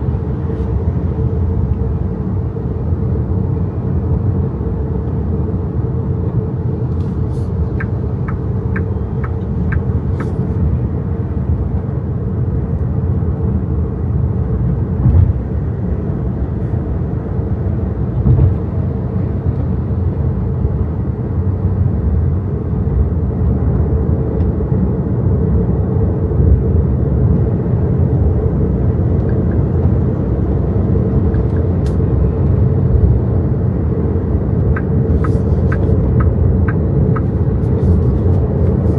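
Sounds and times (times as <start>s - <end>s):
road and tyre rumble in car: 0.0s - 38.9s.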